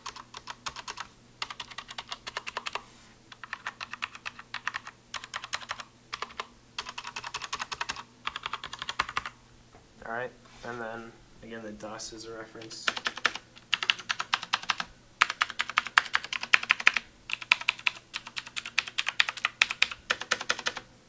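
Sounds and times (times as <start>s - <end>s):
rapid keystrokes on keyboard: 0.0s - 9.4s, 12.6s - 20.8s.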